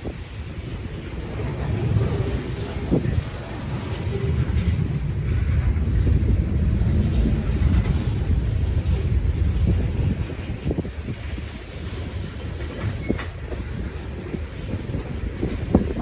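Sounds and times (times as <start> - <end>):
train rumbling past: 0.0 - 16.0
wind buffeting microphone: 0.0 - 16.0.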